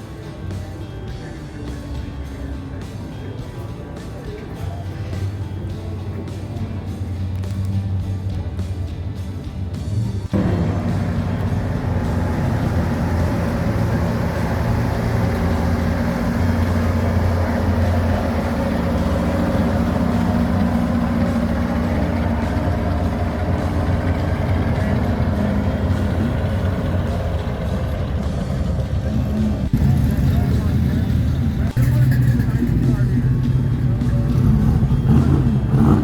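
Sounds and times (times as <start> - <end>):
car engine running: 5.3 - 36.0.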